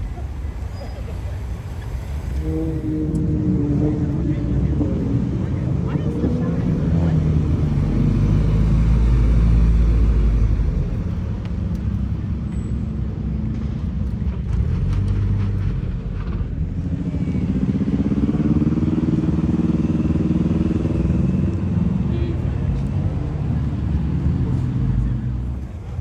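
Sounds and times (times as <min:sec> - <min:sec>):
car engine revving: 0:00.2 - 0:12.4, 0:14.4 - 0:26.0.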